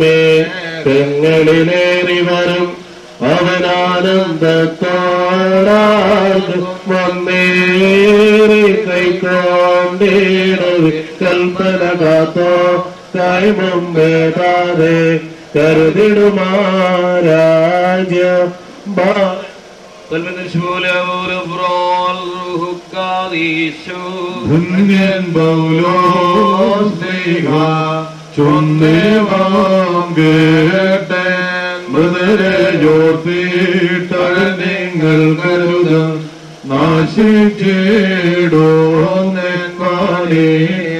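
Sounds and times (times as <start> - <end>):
men chanting a hymn: 0.0 - 40.9.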